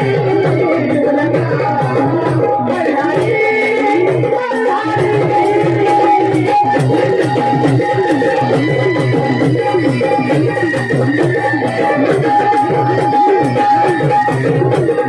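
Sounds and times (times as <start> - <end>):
steady drumming: 0.0 - 15.0.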